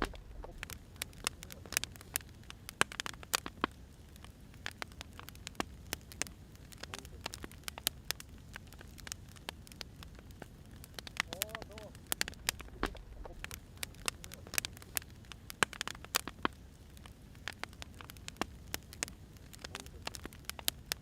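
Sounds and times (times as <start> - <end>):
fire low rumble: 0.0 - 21.0
firewood crackling and popping: 0.0 - 21.0.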